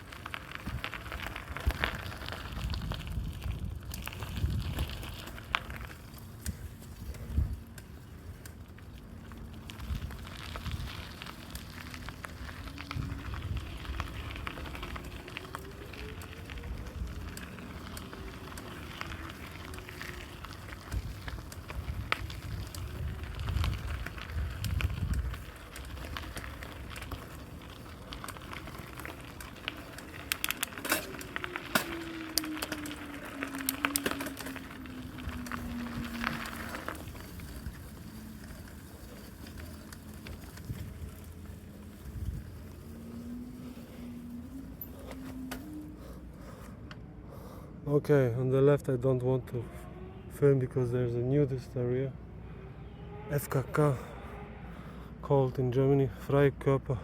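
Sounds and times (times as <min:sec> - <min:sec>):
steady crackling: 0:00.0 - 0:46.8
small vehicle motor whining: 0:00.0 - 0:47.6
low wind rumble: 0:00.0 - 0:57.0.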